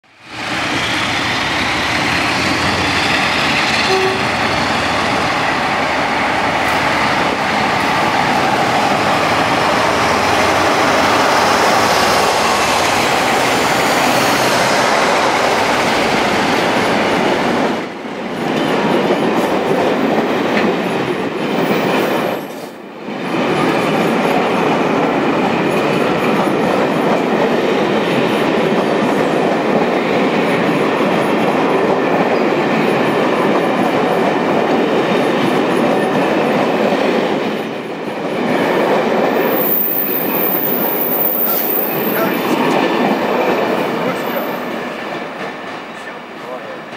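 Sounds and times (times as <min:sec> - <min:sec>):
train coaches rolling on rails: 0:00.0 - 0:46.9
diesel locomotive engine passing: 0:00.2 - 0:46.9.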